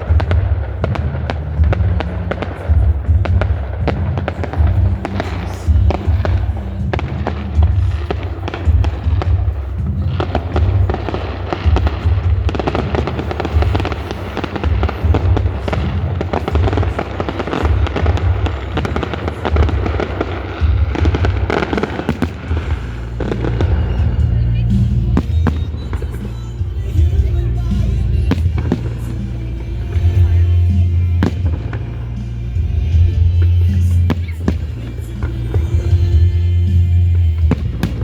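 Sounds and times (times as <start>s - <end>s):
deep firework booms: 0.0s - 38.0s
firework crackles and bangs: 0.0s - 38.0s.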